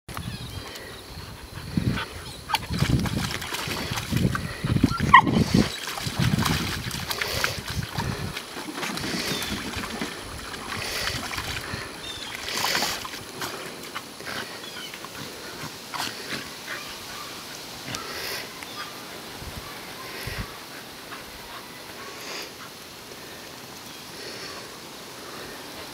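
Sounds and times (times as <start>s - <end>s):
dogs splashing water: 1.5s - 25.9s.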